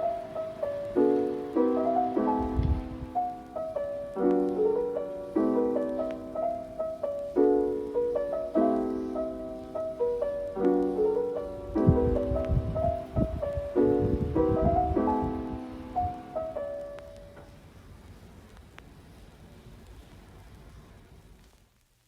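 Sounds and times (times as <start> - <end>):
gentle piano instrumental: 0.0 - 18.1.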